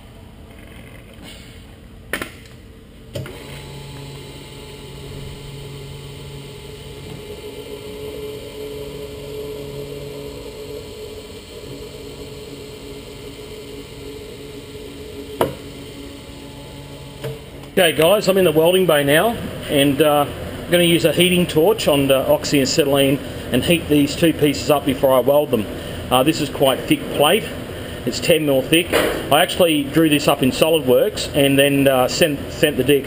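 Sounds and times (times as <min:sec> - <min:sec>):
drill press motor hum: 0:03.0 - 0:32.9.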